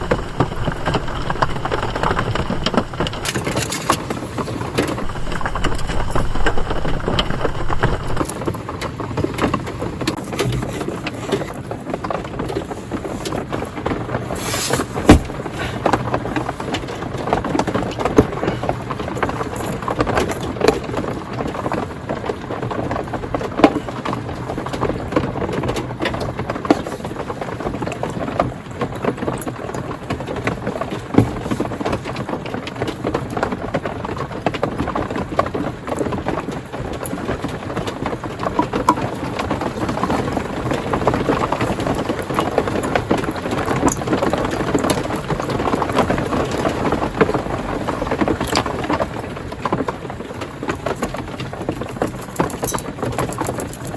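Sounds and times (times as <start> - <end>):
rain falling on a tarp: 0.0 - 53.9.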